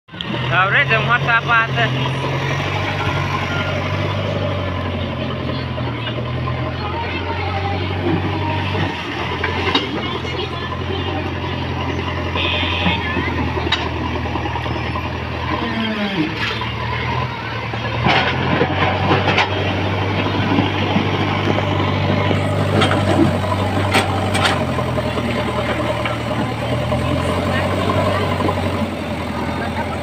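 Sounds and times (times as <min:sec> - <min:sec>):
diesel engine running: 0:00.1 - 0:30.0.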